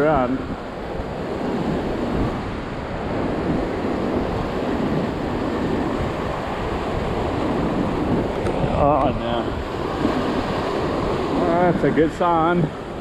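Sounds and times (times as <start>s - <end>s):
waves breaking on rocks: 0.0s - 13.0s
wind buffeting microphone: 0.0s - 13.0s.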